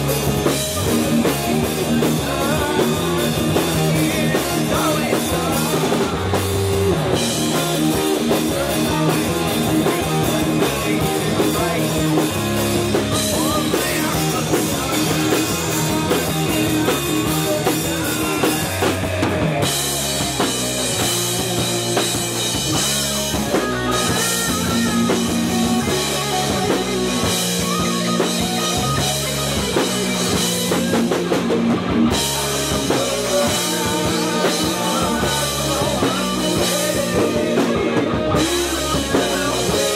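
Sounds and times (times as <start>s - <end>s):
distorted electric guitars: 0.0s - 39.9s
drum kit with cymbals: 0.0s - 39.9s
heavy metal band playing: 0.0s - 39.9s.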